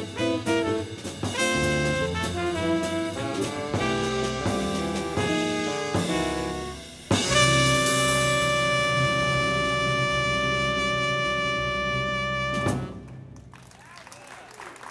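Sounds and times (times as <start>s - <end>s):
jazz band playing: 0.0s - 13.4s.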